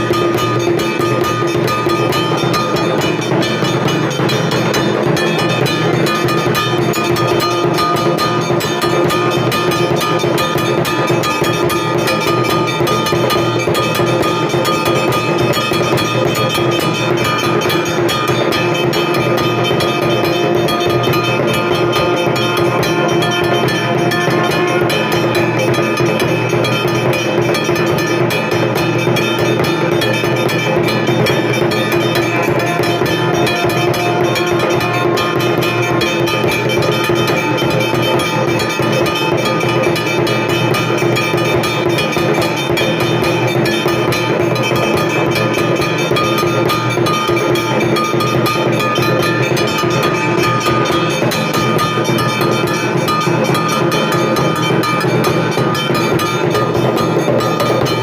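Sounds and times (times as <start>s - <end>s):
bells ringing rapidly: 0.0s - 58.0s.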